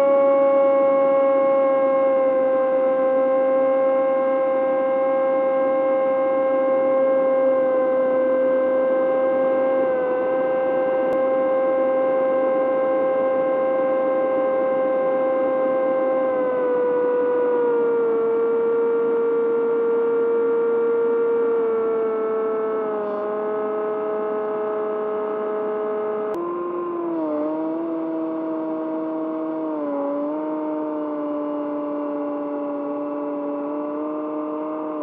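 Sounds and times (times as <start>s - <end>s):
electric motor propeller whine: 0.0s - 35.0s.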